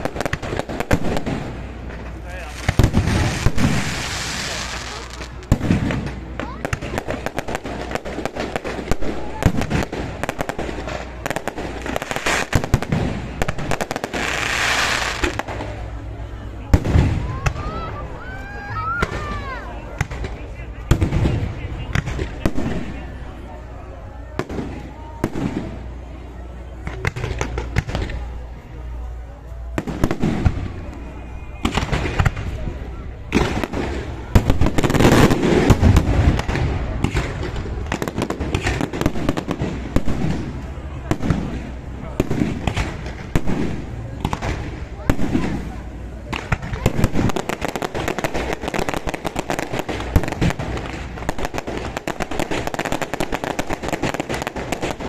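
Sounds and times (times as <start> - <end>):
fireworks crackling hiss: 0.0 - 23.8, 29.7 - 55.0
fireworks cracks and bangs: 0.0 - 55.0.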